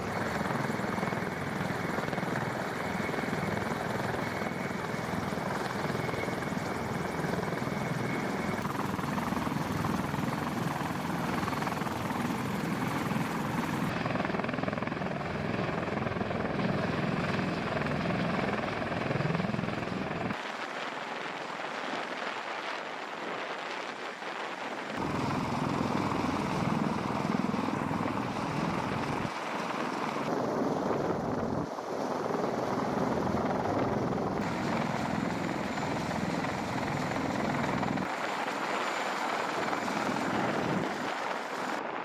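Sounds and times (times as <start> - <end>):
helicopter rotor and turbine noise: 0.0 - 42.0.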